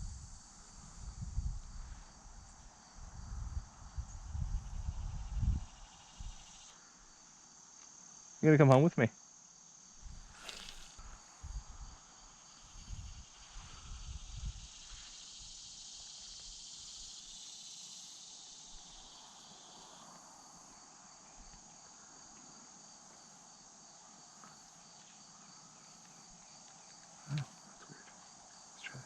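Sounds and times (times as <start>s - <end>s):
crickets trilling: 0.0s - 29.0s
insect buzz: 0.0s - 29.0s.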